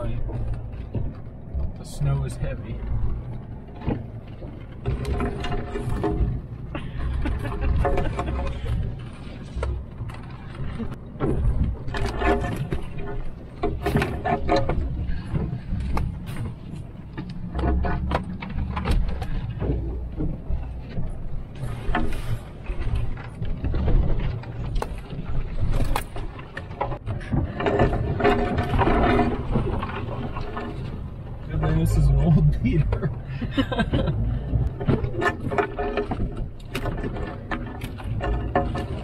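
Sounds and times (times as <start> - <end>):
truck engine and tyres rumbling: 0.0 - 39.0
branches scraping truck body: 3.0 - 39.0.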